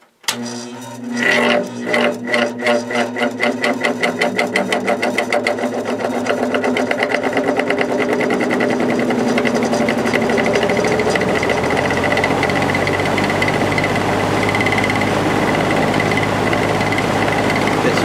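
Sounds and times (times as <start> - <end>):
fan motor pulsing hum: 0.3 - 18.0.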